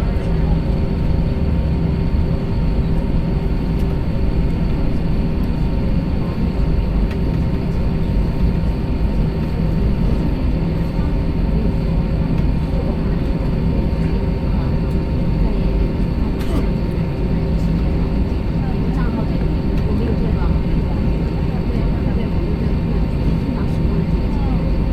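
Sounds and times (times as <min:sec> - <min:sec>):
jet engine cabin rumble: 0:00.0 - 0:24.9
steady hums: 0:00.0 - 0:24.9.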